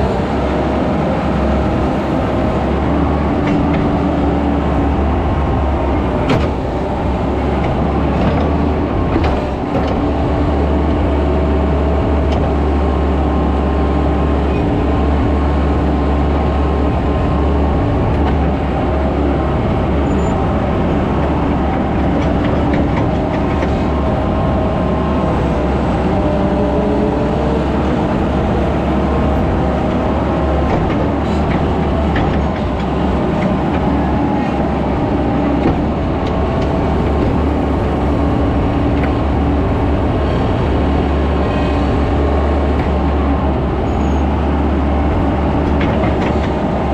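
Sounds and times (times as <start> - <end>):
skid steer engine running: 0.0 - 46.9.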